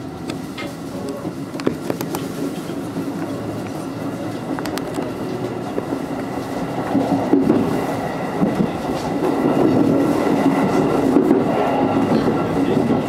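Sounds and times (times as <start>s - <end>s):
electric train rolling rumble: 0.0s - 13.0s.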